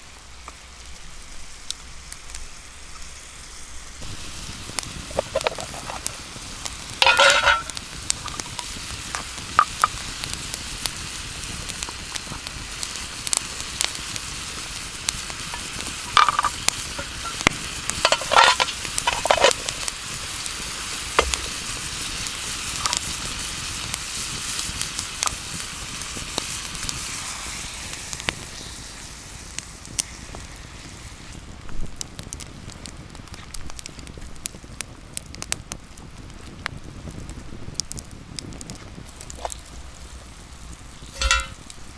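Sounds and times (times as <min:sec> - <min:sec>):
food sizzling in a pan: 0:00.0 - 0:34.7, 0:36.3 - 0:41.9.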